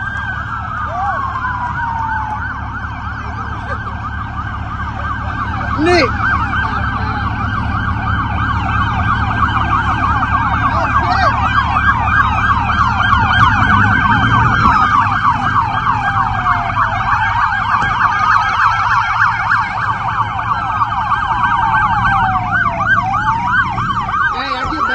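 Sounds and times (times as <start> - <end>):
police sirens yelping: 0.0 - 24.9
siren wail: 0.0 - 24.9.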